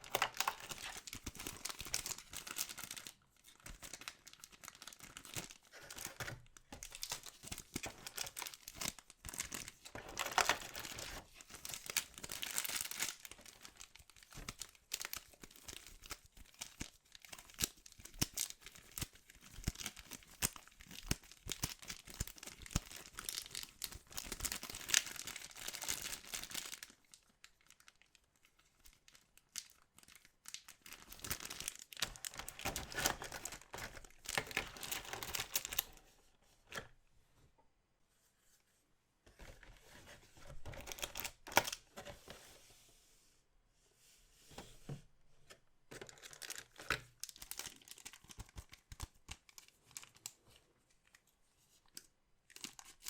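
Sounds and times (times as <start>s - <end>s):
packaging crinkling and tearing: 0.0s - 36.0s, 40.4s - 42.0s, 45.9s - 51.2s, 51.8s - 53.0s.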